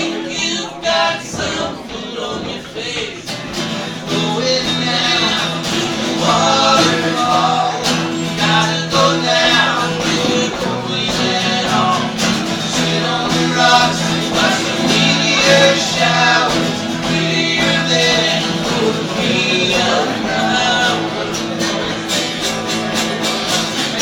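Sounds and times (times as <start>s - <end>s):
band playing country song: 0.0s - 24.0s
guitar: 0.0s - 24.0s
person singing: 0.0s - 24.0s.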